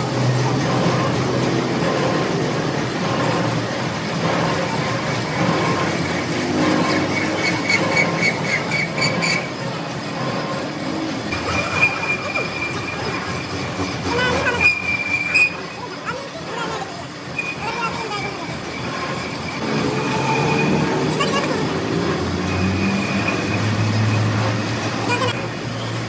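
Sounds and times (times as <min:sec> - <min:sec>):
factory machinery metallic squeal: 0:00.1 - 0:26.0.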